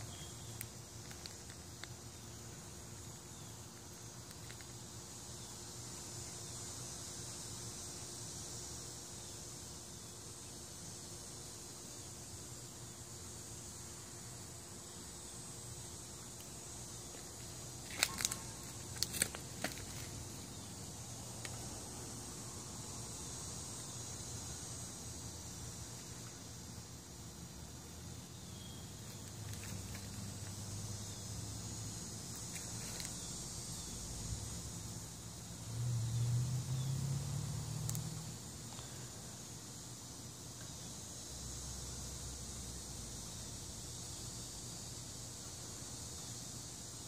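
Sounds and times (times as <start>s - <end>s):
high-pitched outdoor hiss: 0.0s - 47.0s.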